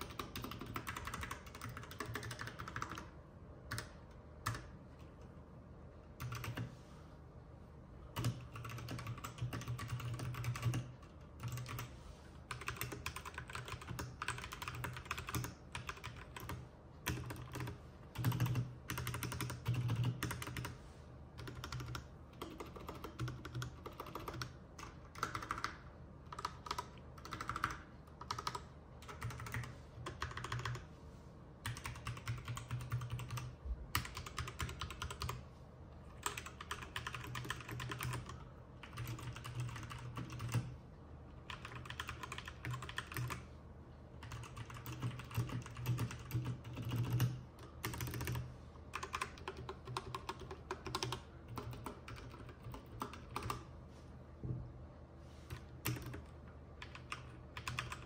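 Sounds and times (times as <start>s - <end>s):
fast mechanical keyboard typing: 0.0s - 4.8s, 6.2s - 6.7s, 8.1s - 11.9s, 12.5s - 20.8s, 21.4s - 30.8s, 31.6s - 35.4s, 36.2s - 40.8s, 41.4s - 43.5s, 44.2s - 53.7s, 55.5s - 58.0s.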